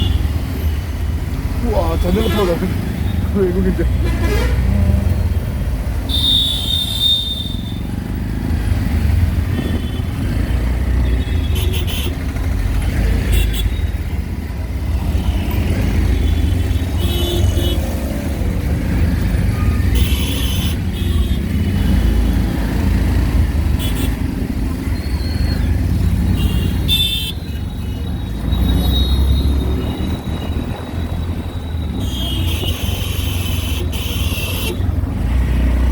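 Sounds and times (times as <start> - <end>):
auto-rickshaw engine and road rumble: 0.0 - 35.9.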